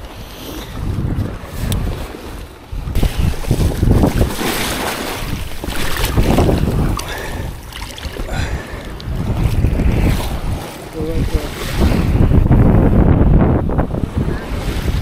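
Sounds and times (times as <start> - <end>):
wind buffeting microphone: 0.0 - 15.0
surf breaking on beach: 0.8 - 15.0.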